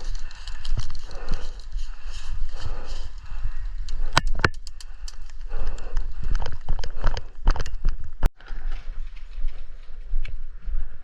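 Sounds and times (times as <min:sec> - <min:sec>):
footsteps on hard ground: 0:00.0 - 0:03.4, 0:05.4 - 0:11.0
handling and wind rumble: 0:00.0 - 0:11.0.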